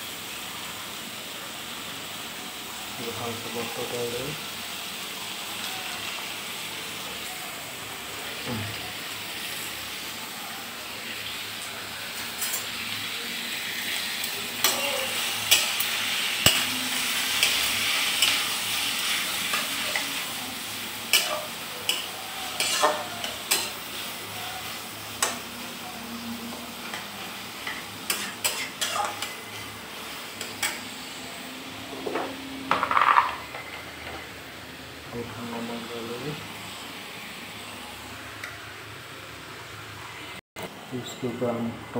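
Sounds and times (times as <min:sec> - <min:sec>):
onions sizzling in butter: 0:00.0 - 0:40.3.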